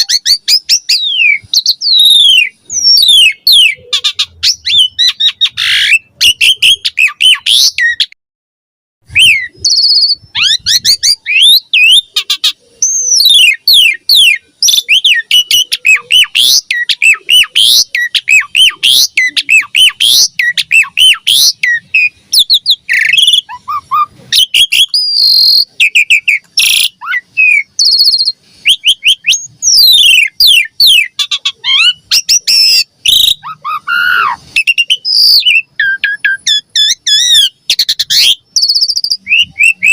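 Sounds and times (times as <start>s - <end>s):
starling singing rapid whistles: 0.0s - 8.1s, 9.1s - 39.9s.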